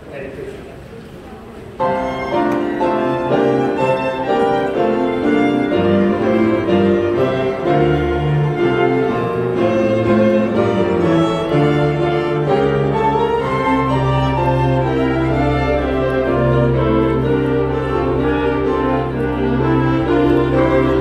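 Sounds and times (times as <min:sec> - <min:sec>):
strings and piano playing a carol: 0:01.6 - 0:21.0.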